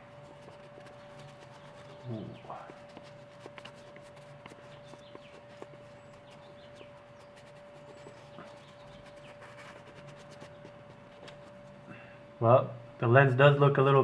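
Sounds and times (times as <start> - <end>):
wipe rubbing on camera lens: 0.0 - 11.8.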